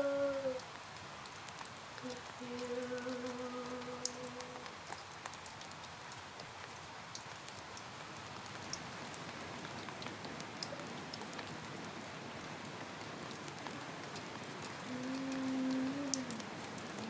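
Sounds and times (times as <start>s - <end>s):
rain falling steadily: 0.0s - 17.0s
sharp raindrop ticks: 0.0s - 17.0s.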